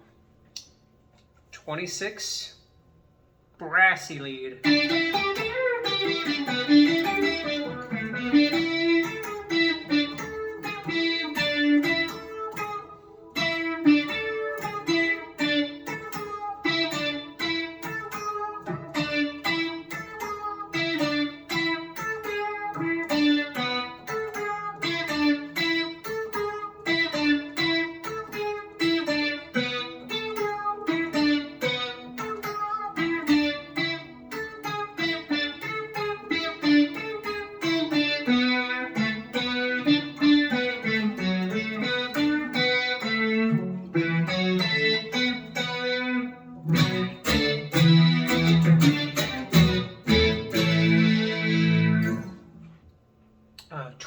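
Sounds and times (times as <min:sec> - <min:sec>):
brassy synth lead guitar notes: 0:04.6 - 0:52.7.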